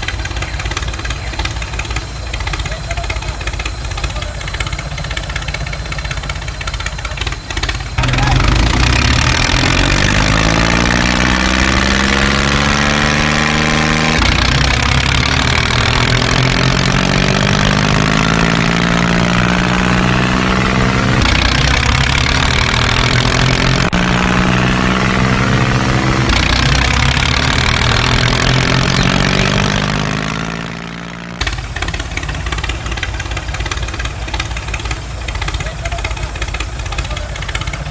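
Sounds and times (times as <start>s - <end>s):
tractor engine labouring: 0.0s - 37.9s.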